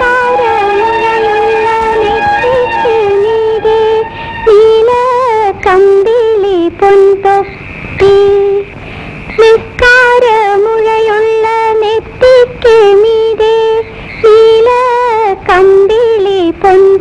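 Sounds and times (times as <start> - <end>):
woman singing: 0.0 - 8.7, 9.3 - 17.0.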